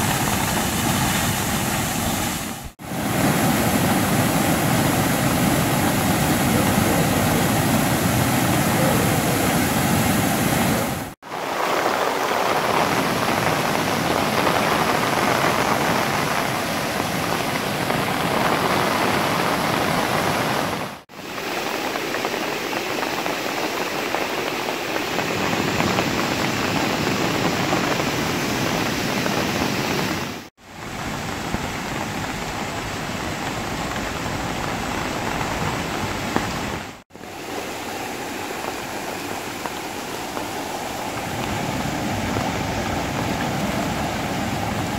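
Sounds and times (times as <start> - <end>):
floodwater gushing from drains: 0.0 - 44.9.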